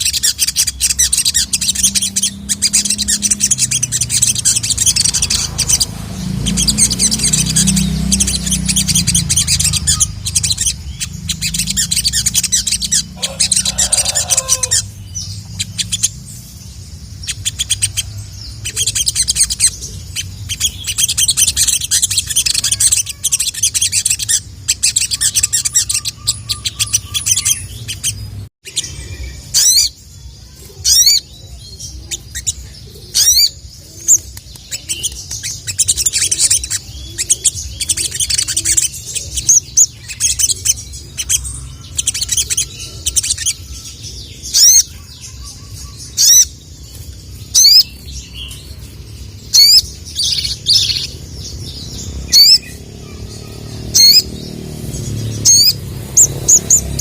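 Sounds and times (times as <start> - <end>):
sunbird chattering twitter song: 0.0 - 57.0.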